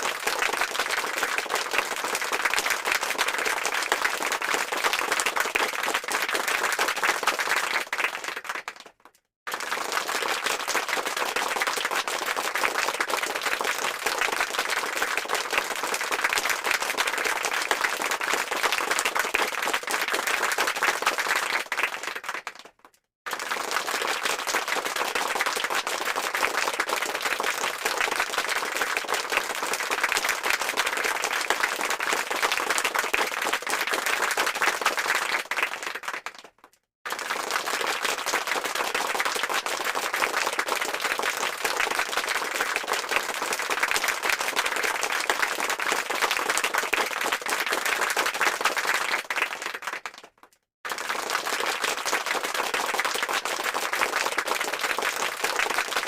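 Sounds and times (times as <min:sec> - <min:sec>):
crowd applause: 0:00.0 - 0:22.7, 0:23.3 - 0:36.5, 0:37.1 - 0:50.3, 0:50.9 - 0:56.0.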